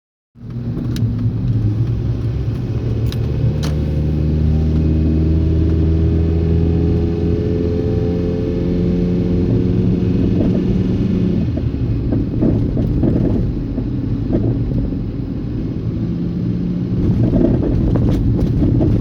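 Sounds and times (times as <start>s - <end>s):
car engine and road noise: 0.4s - 19.0s.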